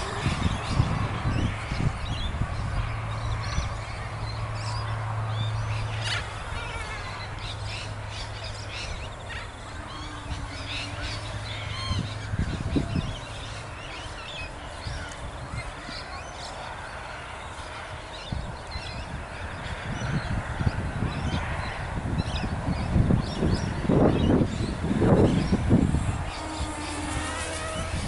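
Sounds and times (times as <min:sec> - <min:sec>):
birds chirping: 0:00.0 - 0:28.0
wind on microphone: 0:00.0 - 0:28.0.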